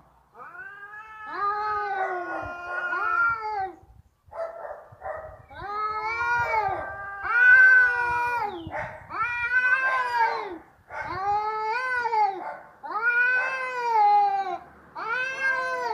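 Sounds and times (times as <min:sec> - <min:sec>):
cat yowling: 0:00.4 - 0:03.8, 0:05.6 - 0:15.9.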